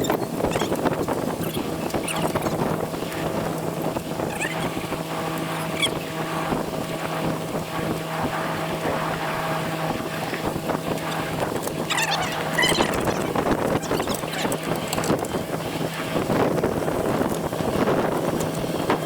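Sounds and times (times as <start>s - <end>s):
boat engine humming: 0.0s - 19.0s
water washing: 0.0s - 19.0s
wind on microphone: 0.0s - 19.0s.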